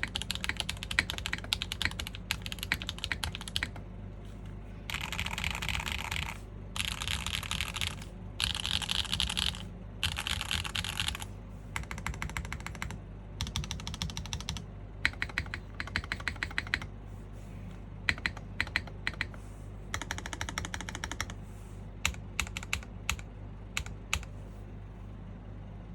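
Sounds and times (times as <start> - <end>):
mechanical keyboard typing: 0.0 - 3.8, 4.9 - 16.9, 18.1 - 21.4, 22.0 - 24.4.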